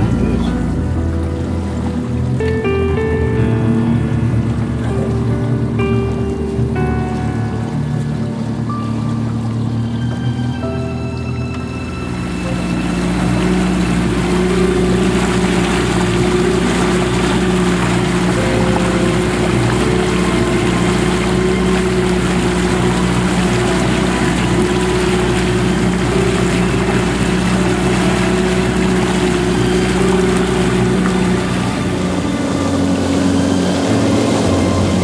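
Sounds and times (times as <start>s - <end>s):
outboard motor running: 0.0s - 35.0s
water washing past hull: 0.0s - 35.0s.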